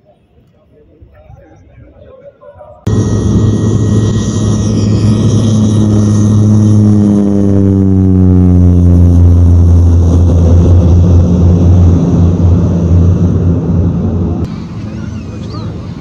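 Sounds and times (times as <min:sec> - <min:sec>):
turboprop engine droning: 0:02.9 - 0:16.0.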